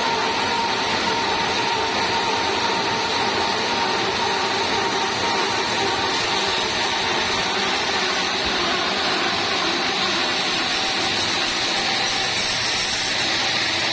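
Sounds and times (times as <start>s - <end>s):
sawmill machinery whirring: 0.0s - 13.9s.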